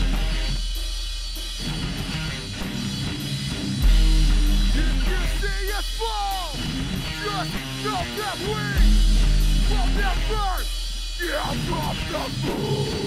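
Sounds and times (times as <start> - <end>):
drum kit: 0.0 - 13.0
electric guitar: 0.0 - 13.0.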